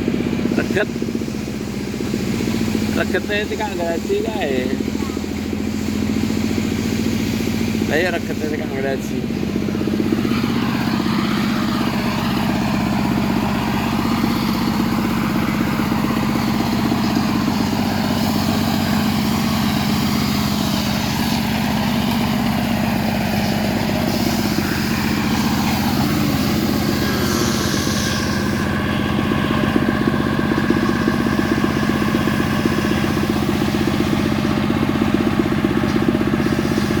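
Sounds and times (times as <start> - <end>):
chainsaw engine running: 0.0 - 37.0.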